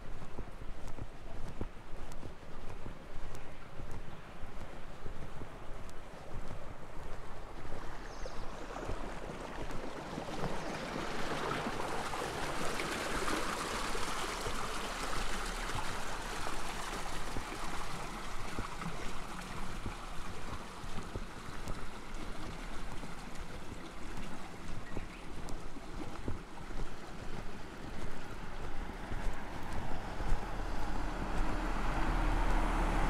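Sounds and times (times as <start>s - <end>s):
water rushing in channel: 0.0s - 33.0s.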